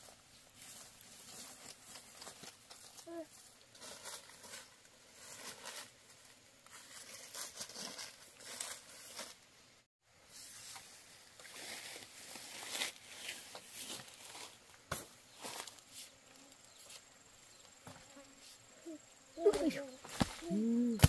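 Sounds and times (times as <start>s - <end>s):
rustling and crinkling: 0.0s - 9.5s, 10.3s - 18.7s.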